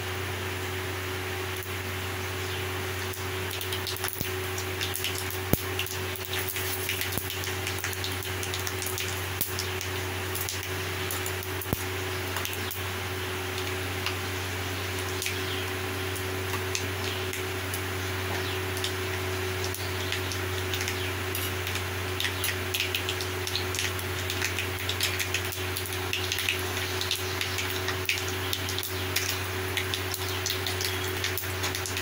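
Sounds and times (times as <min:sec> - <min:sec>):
steady low hum: 0:00.0 - 0:32.0
hot oil sizzling and popping: 0:01.0 - 0:32.0.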